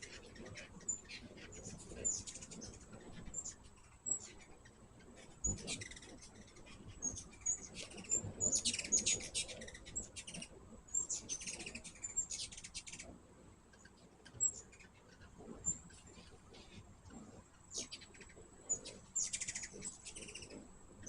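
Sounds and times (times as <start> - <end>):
hummingbirds chipping and chattering: 0.0 - 21.0.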